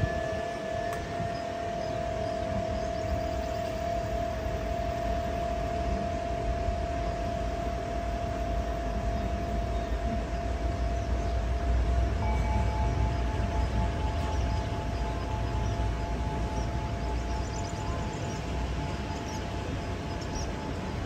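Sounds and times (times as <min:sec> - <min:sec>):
low steady rumble: 0:00.0 - 0:21.0
tubular wind chime ringing: 0:00.0 - 0:21.0.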